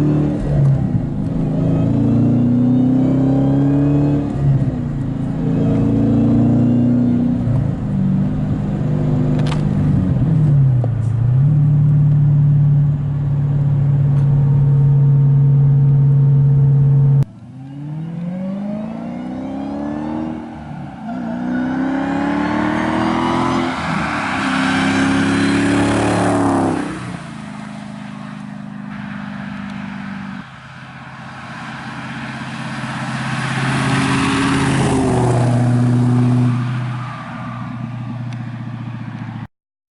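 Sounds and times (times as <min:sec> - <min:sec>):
car engine accelerating: 0:00.0 - 0:39.5.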